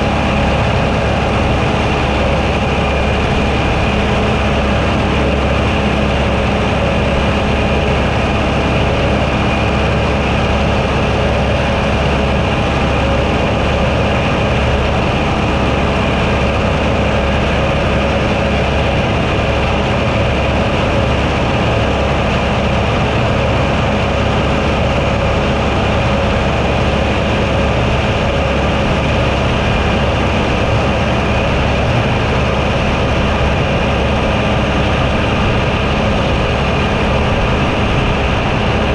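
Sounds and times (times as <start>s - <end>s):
tractor engine drone: 0.0s - 38.9s.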